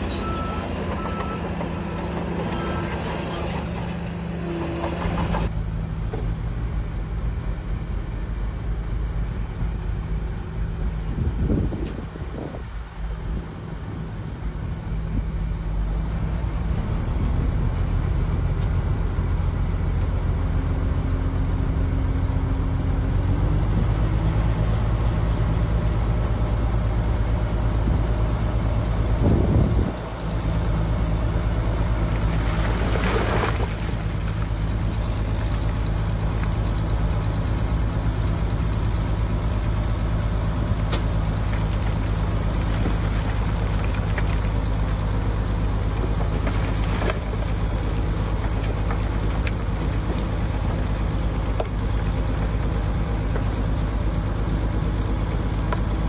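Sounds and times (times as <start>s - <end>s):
heavy machinery engine drone: 0.0s - 56.0s.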